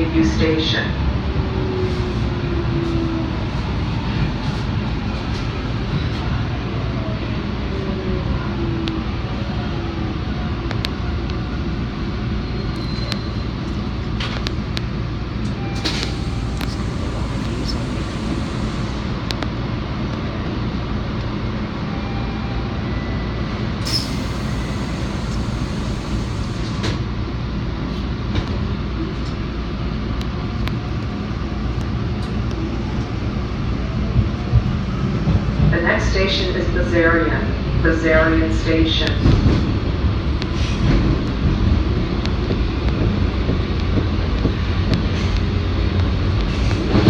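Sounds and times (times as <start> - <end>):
subway train rumbling: 0.0 - 47.0.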